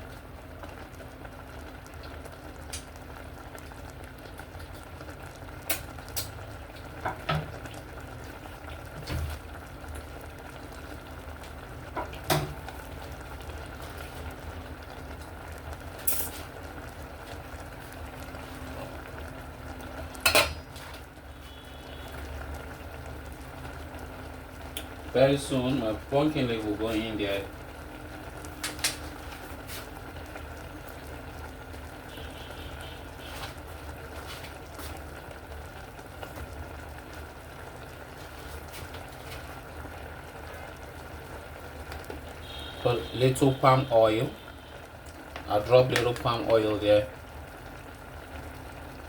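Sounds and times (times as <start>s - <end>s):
soup bubbling in a pot: 0.0s - 49.0s.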